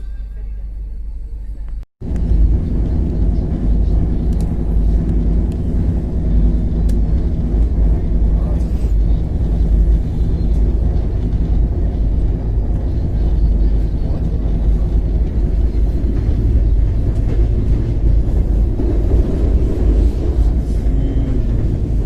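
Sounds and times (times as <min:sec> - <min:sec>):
passenger train rumbling: 0:00.0 - 0:22.0.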